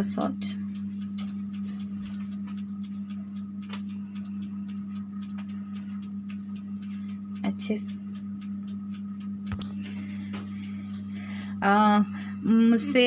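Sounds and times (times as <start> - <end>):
steady low hum: 0.0 - 13.0
light irregular clicks: 0.4 - 11.2.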